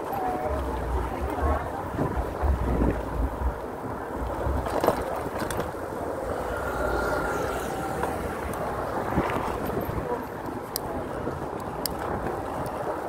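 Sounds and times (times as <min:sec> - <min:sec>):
bike tyres rolling on pavement: 0:00.0 - 0:13.0
wind rushing over microphone: 0:00.0 - 0:13.0.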